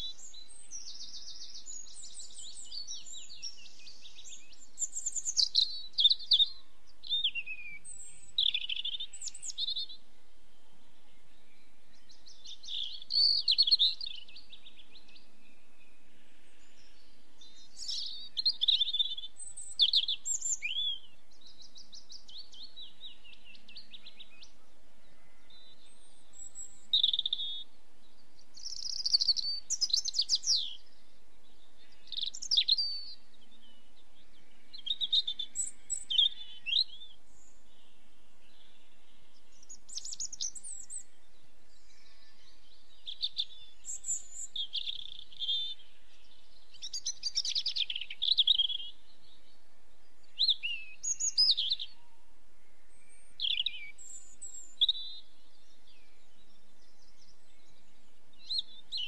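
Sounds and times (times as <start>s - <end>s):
songbirds trilling and warbling: 0.0s - 59.0s.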